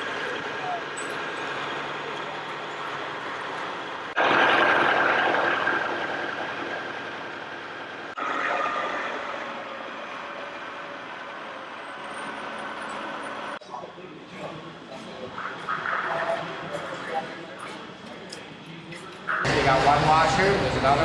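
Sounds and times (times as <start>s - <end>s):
construction machinery noise: 0.0s - 21.0s.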